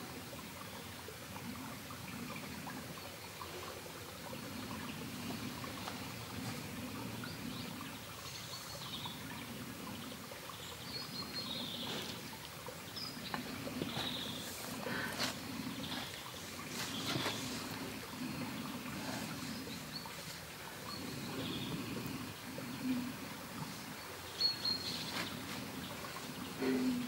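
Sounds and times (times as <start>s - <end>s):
small birds chirping: 4.4s - 27.0s.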